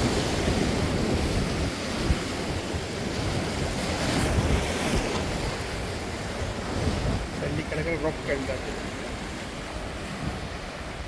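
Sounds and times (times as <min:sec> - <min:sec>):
surf breaking on rocky shore: 0:00.0 - 0:11.0
wind buffeting microphone: 0:00.0 - 0:11.0.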